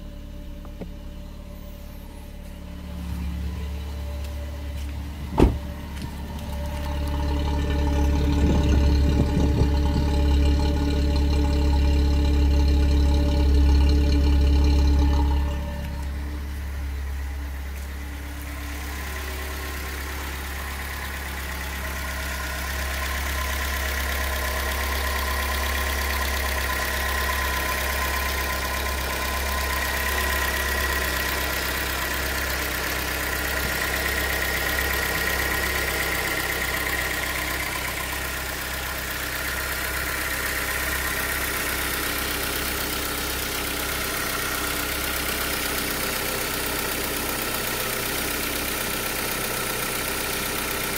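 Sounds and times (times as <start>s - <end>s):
car engine idling with whine: 0.0s - 50.9s.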